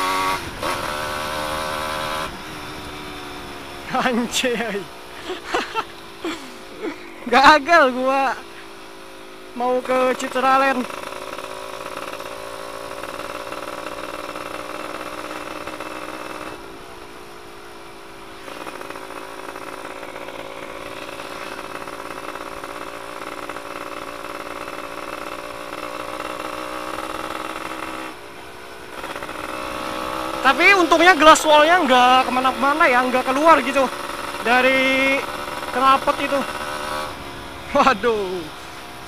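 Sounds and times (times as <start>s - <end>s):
two-stroke engine loud open exhaust: 0.0s - 39.0s.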